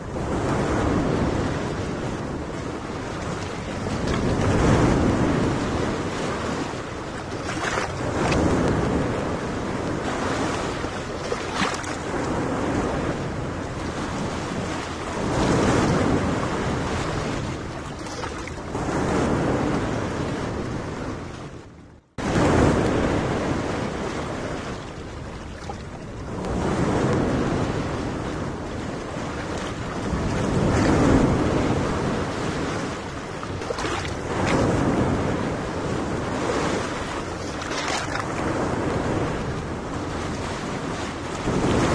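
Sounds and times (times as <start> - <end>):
waves washing onto beach: 0.0 - 41.9
wind on microphone: 0.0 - 41.9.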